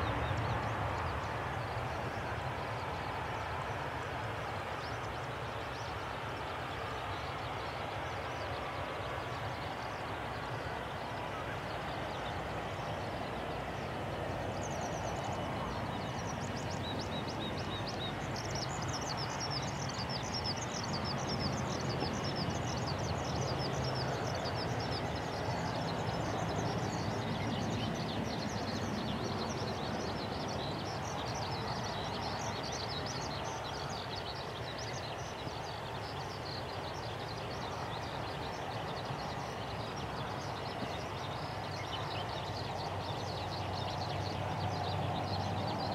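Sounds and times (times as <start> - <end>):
small birds chirping: 4.8 - 45.9.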